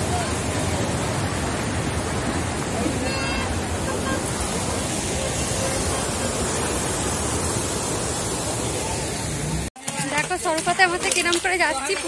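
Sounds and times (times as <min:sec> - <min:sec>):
stream rushing: 0:00.0 - 0:09.7.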